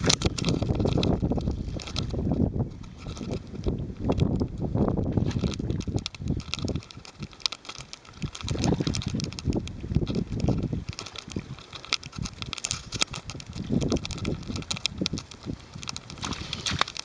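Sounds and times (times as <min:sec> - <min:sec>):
quick irregular clicks: 0:00.0 - 0:02.2, 0:05.3 - 0:17.0
fish splashing in water: 0:00.0 - 0:17.0
wind buffeting microphone: 0:00.0 - 0:17.0.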